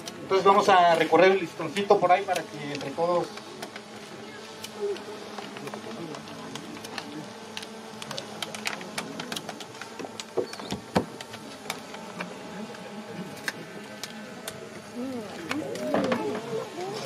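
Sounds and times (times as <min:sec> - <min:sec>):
faint murmuring voices: 0:00.0 - 0:17.0
steady low buzz: 0:00.0 - 0:17.0.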